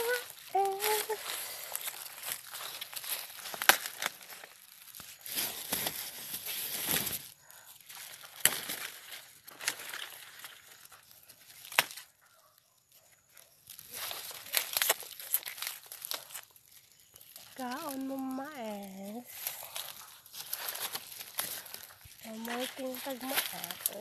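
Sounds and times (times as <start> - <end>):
corn leaves rustling: 0.0 - 12.2, 12.9 - 24.0
stalks cracking: 0.0 - 12.3, 13.6 - 24.0.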